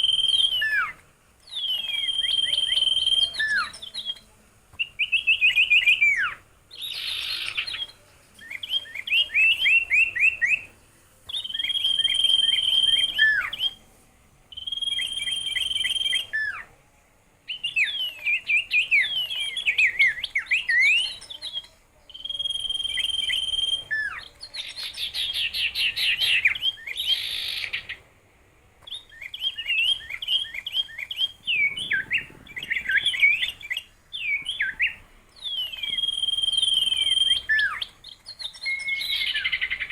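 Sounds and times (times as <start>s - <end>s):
songbird singing: 0.0s - 28.1s, 28.8s - 39.9s.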